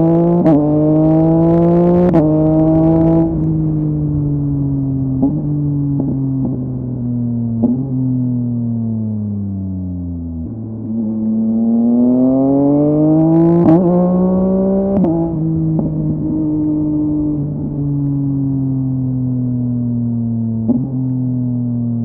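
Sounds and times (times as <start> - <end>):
motorcycle engine revving: 0.0 - 22.0
exhaust cracks: 1.9 - 11.4, 13.7 - 22.0.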